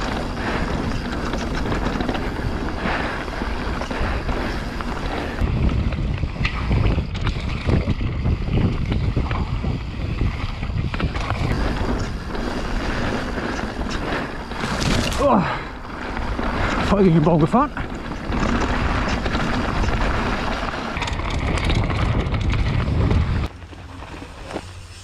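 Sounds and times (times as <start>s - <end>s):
wind buffeting microphone: 0.0s - 24.8s
bike chain and frame rattles: 0.0s - 25.0s
bike tyres rolling over dirt: 0.0s - 25.0s.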